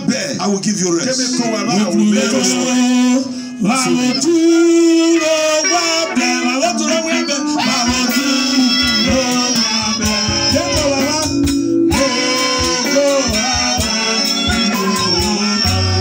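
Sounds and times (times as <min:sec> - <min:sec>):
amplified gospel singing: 0:00.0 - 0:16.0.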